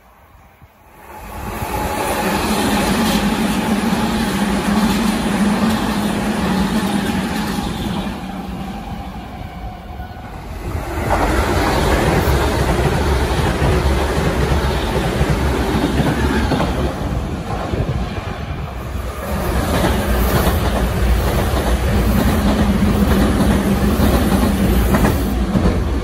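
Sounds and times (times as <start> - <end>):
train wheels rumbling on rails: 0.9 - 26.0.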